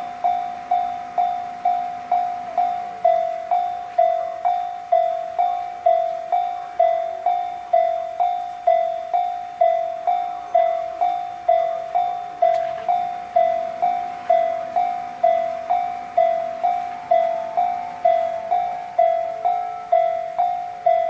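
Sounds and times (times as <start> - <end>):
level-crossing alarm ringing: 0.0 - 21.0.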